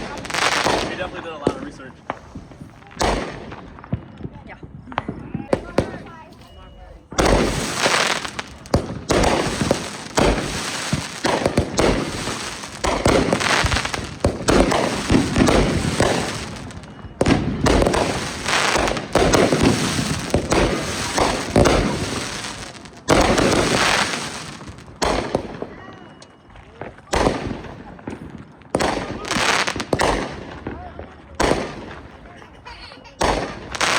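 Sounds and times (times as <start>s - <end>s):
fireworks crackling bangs and pops: 0.0s - 33.9s.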